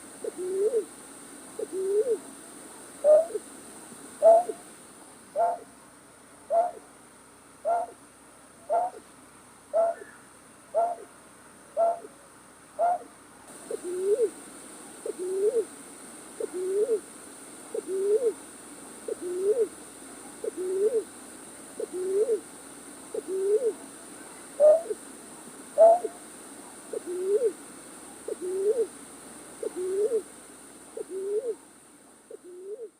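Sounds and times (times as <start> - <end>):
recorded night bird calls: 0.0 - 32.9
steady hiss: 0.0 - 32.9.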